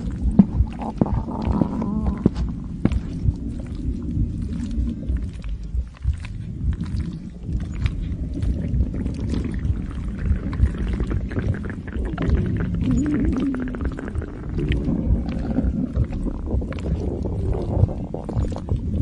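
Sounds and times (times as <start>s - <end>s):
stomach growling and gurgling: 0.0s - 19.0s.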